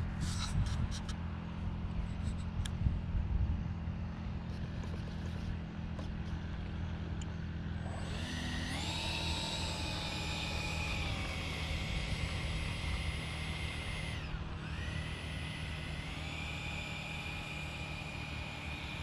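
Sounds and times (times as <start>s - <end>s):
electric ducted fan whine: 0.0s - 19.0s
steady low hum: 0.0s - 19.0s.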